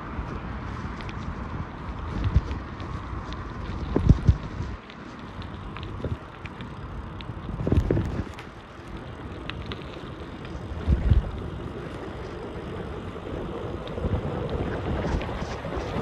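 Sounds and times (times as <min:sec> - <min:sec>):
bicycle running noise: 0:00.0 - 0:16.0
wind buffeting microphone: 0:00.0 - 0:16.0.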